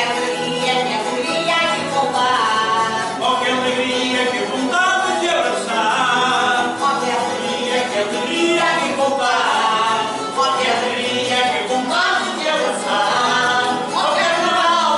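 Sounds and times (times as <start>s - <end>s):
group of voices singing in chorus: 0.0s - 14.9s.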